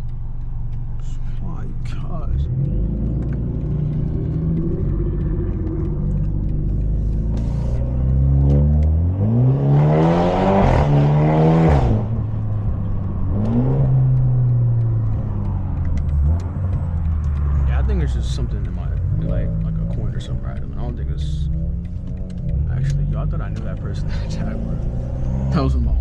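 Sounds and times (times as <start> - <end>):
car exhaust cruising: 0.0 - 26.0.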